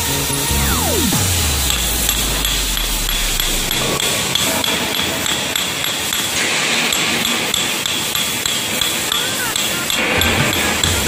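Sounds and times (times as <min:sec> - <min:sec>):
hammer striking metal: 0:00.5 - 0:11.0.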